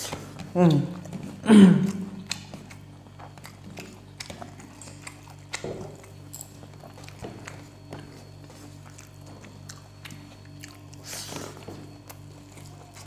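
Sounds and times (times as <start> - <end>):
chewing: 0.0 - 13.0
steady low hum: 0.0 - 13.0.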